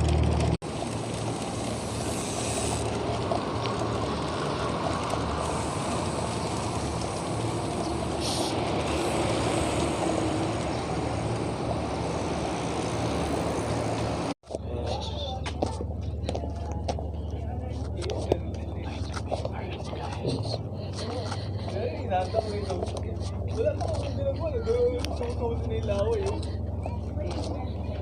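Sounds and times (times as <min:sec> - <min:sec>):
road noise low rumble: 0:00.0 - 0:28.0.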